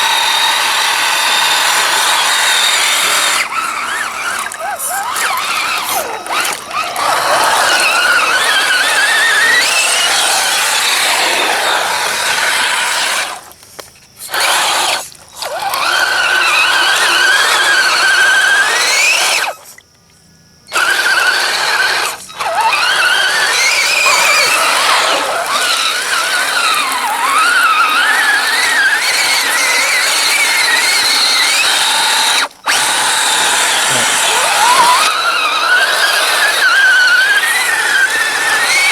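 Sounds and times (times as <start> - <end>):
electric motor and gearbox whining: 0.0 - 19.7, 20.6 - 38.9.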